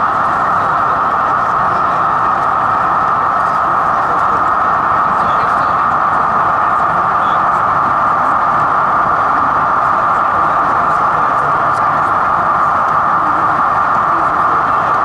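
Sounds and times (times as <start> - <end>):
model locomotive engine drone: 0.0 - 15.0.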